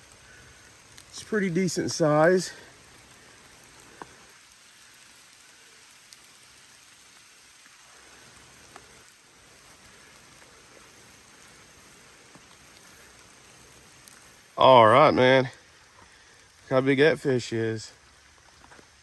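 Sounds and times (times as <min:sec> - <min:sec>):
faint steady rain: 0:00.0 - 0:19.0.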